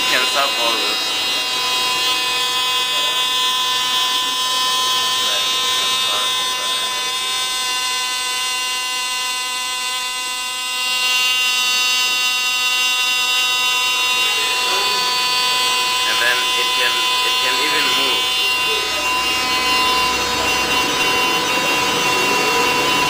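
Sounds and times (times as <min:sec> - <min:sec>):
small electric motor buzzing: 0:00.0 - 0:23.0.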